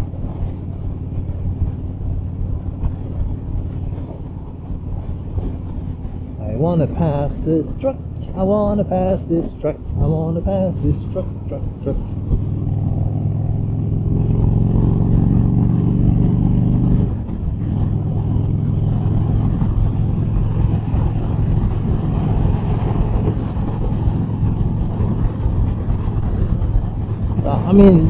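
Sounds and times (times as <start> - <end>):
motorcycle engine pulling hard: 0.0 - 28.0
wind and road noise: 0.0 - 28.0.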